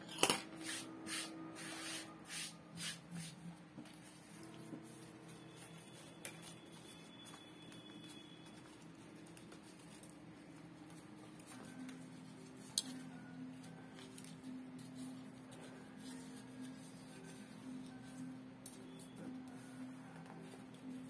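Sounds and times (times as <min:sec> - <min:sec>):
paper card handling: 0:03.9 - 0:21.0.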